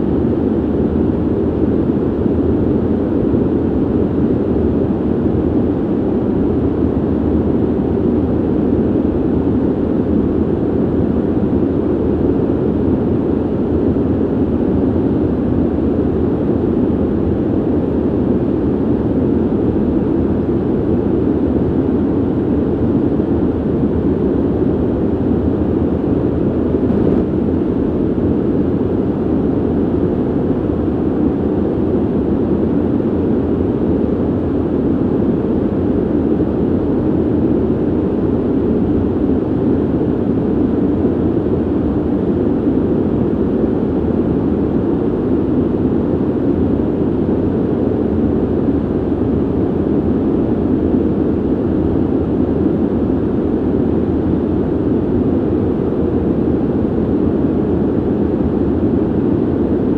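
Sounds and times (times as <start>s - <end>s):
ventilation air rushing: 0.0s - 59.9s.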